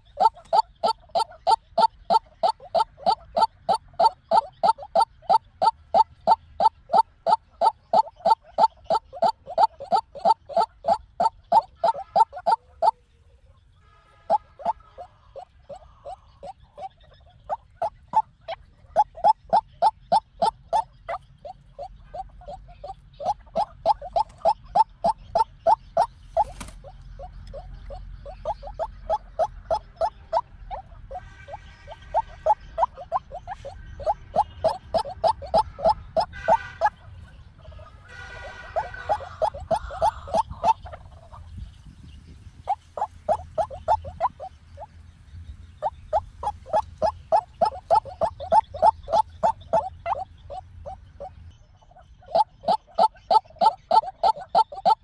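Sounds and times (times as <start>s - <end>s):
waterhen calling: 0.0s - 13.0s, 13.9s - 41.7s, 42.6s - 44.9s, 45.7s - 55.0s.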